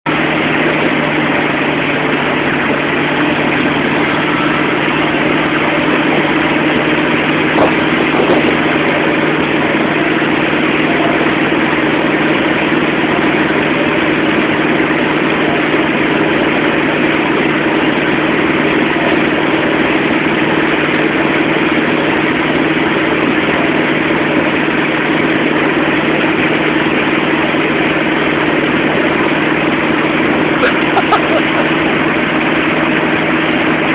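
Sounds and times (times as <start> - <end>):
boat engine droning: 0.0 - 33.9
boat wake churning: 0.0 - 33.9.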